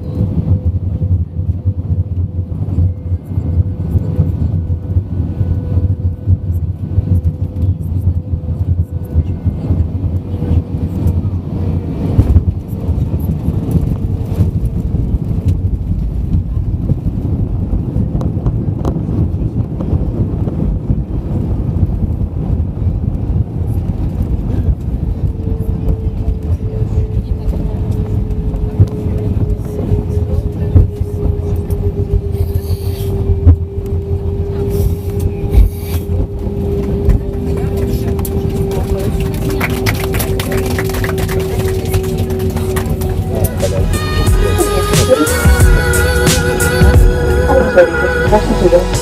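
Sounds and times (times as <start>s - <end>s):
vehicle rumble with whine: 0.0s - 49.0s.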